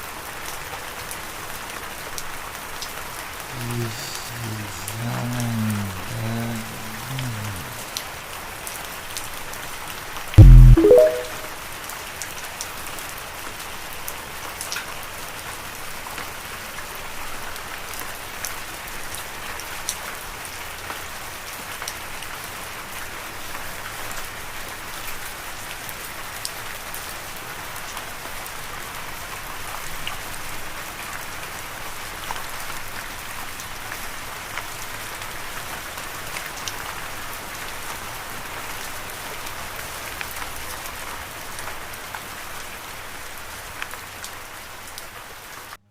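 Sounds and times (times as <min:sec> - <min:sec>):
steady rain patter: 0:00.0 - 0:10.3, 0:12.1 - 0:45.8.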